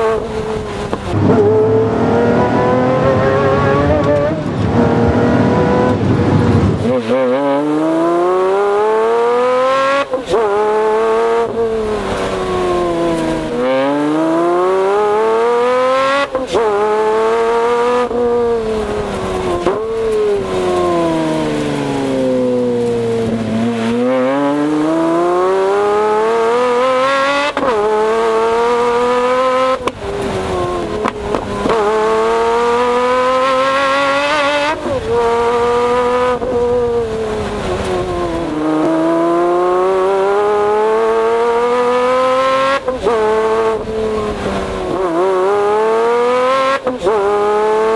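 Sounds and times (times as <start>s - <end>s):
car exhaust under hard acceleration: 0.0s - 47.9s.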